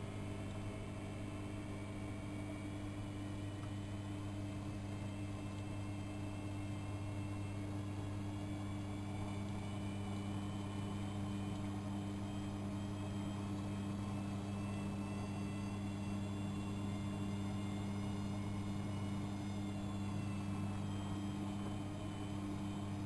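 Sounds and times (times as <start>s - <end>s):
faint high whine: 0.0s - 23.0s
washing machine humming: 0.0s - 23.0s.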